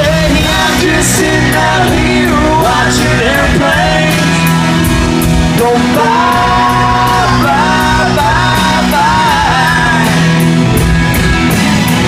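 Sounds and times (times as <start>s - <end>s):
bending lead melody: 0.0s - 12.0s
live country rock band: 0.0s - 12.0s.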